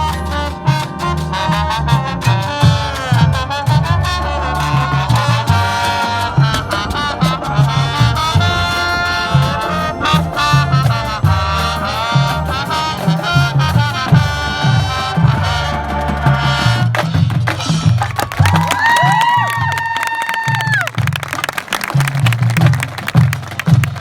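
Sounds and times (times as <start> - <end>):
brass horn lines: 0.0 - 19.9
driving drum pattern: 0.0 - 24.0.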